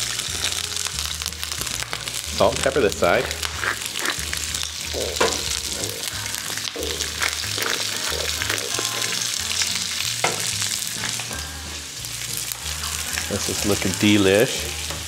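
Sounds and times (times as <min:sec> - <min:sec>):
cauliflower sizzling in skillet: 0:00.0 - 0:15.0.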